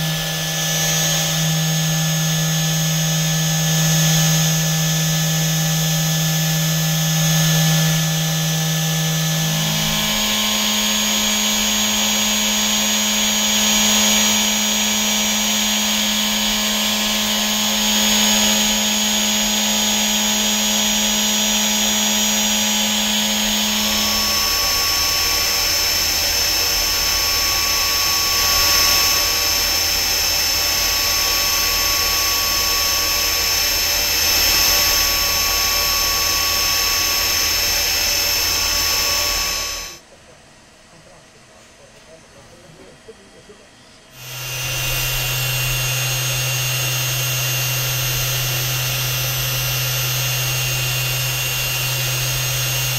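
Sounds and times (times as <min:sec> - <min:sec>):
drilling machine whine: 0:00.0 - 0:40.0, 0:44.2 - 0:52.9.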